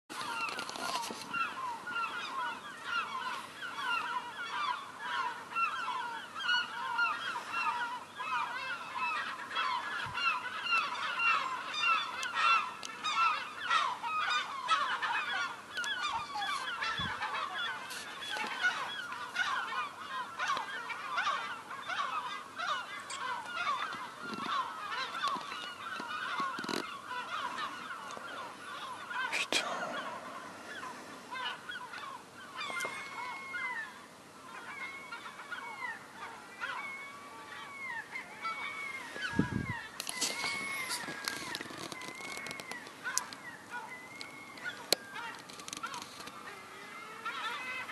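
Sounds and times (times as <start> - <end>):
flock of gulls calling: 0.1 - 47.9.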